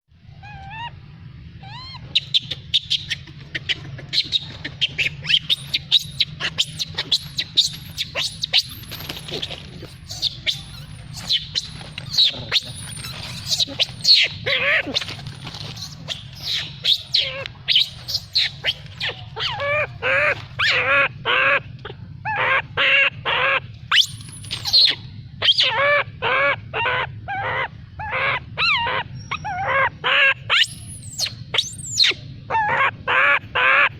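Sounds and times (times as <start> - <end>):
rapid repeated bird calls: 0.1 - 33.9
steady low hum: 0.1 - 33.9
birds chirping and whistling: 0.3 - 21.0, 23.9 - 32.8.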